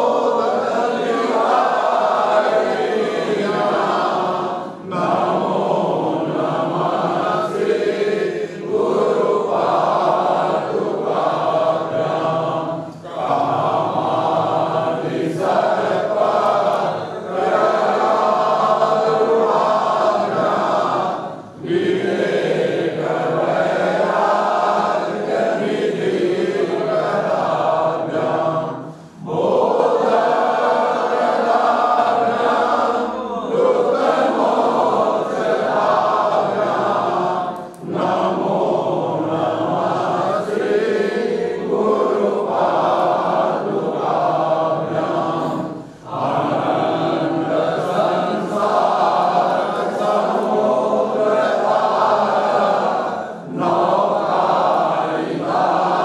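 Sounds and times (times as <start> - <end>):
group chanting a hymn: 0.0 - 56.0.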